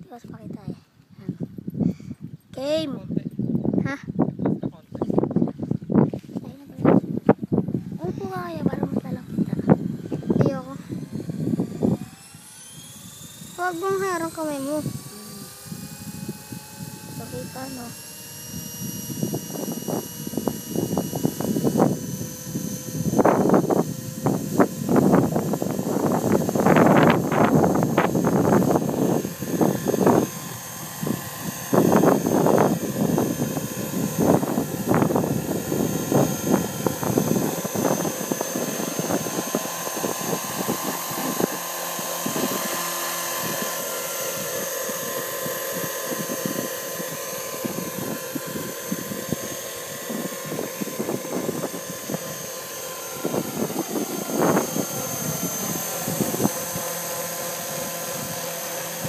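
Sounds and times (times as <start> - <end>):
wind buffeting microphone: 0.0 - 59.0
model helicopter whining: 5.0 - 59.0.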